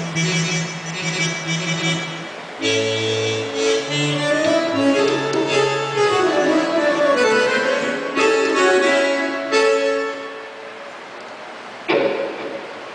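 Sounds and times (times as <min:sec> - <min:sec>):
sustained keyboard chords: 0:00.0 - 0:10.9.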